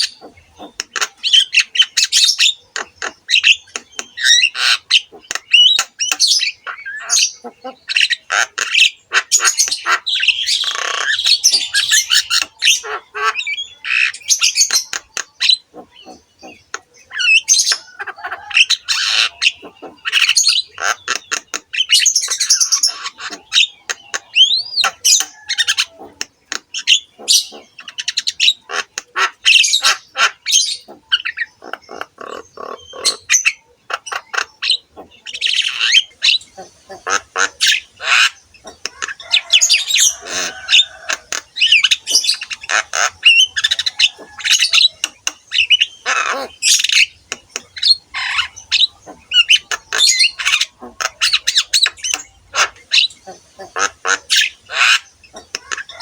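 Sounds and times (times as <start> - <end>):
bird squawking chatter: 0.0 - 56.0.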